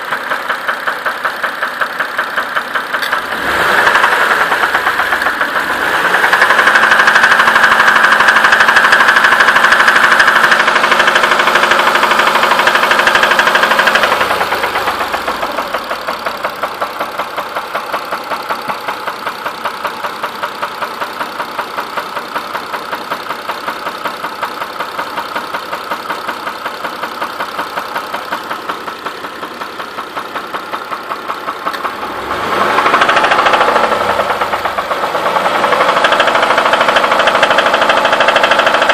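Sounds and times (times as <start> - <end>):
car engine running with a knock: 0.0 - 38.9.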